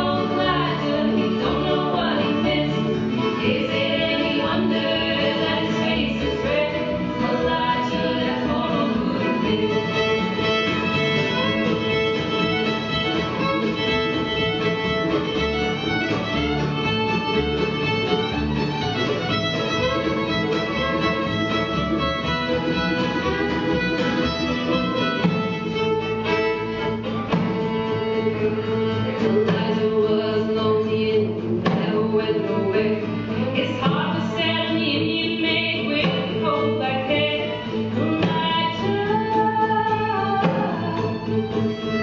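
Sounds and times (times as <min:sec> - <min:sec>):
acoustic country band playing: 0:00.0 - 0:42.0
fiddle leading: 0:00.0 - 0:42.0.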